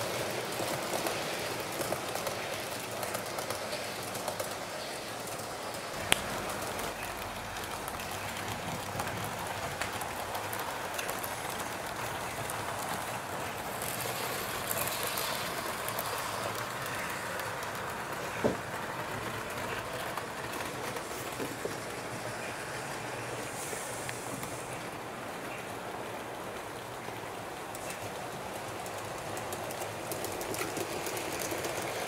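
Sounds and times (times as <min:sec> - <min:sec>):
train running on track: 0:00.0 - 0:32.0.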